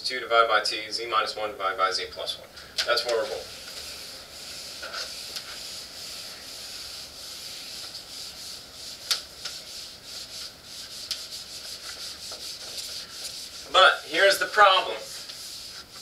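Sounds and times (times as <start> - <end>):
eraser rubbing on whiteboard: 3.0 - 16.0.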